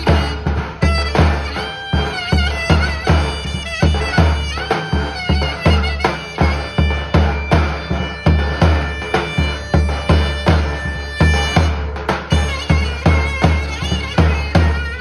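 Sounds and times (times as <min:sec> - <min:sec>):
bass drum steady beat: 0:00.0 - 0:14.9
shrill reed pipe melody: 0:00.0 - 0:15.0.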